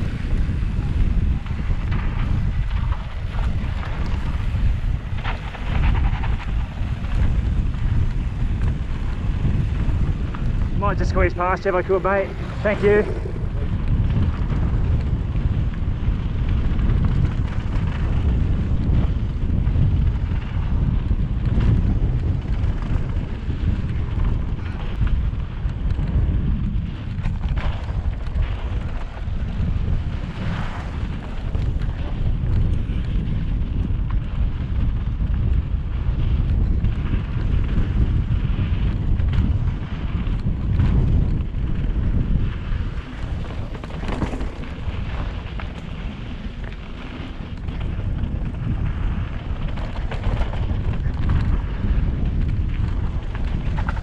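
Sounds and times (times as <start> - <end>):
bike clicks and rattles: 0.0 - 54.0
wind buffeting microphone: 0.0 - 54.0.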